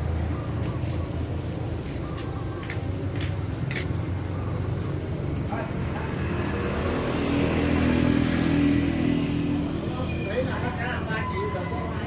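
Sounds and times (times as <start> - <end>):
vehicle engine rumbling: 0.0 - 11.2.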